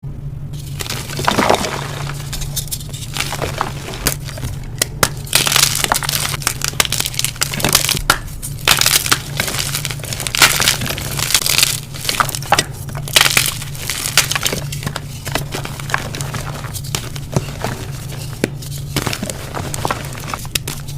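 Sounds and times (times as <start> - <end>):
chalk crunching and crackling: 0.6 - 20.9.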